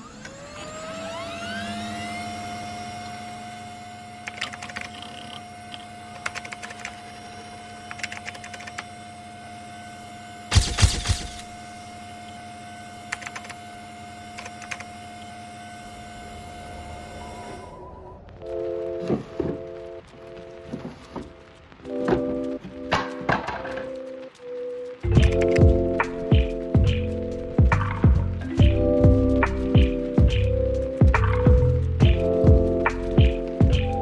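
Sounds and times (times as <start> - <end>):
small electric motor whining: 0.0 - 34.0.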